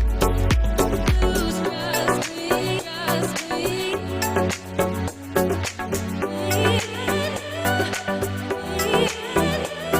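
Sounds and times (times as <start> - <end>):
music with steady beat: 0.0 - 9.9.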